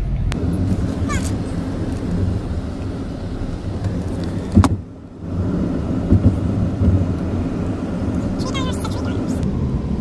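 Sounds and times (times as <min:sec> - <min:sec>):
car cabin road noise: 0:00.0 - 0:10.0.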